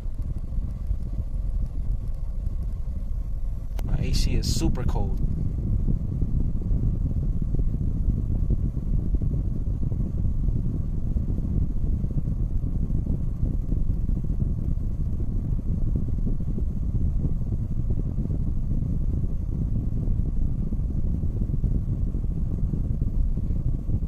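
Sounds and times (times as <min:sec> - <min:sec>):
air rushing from vent: 0:00.0 - 0:24.0.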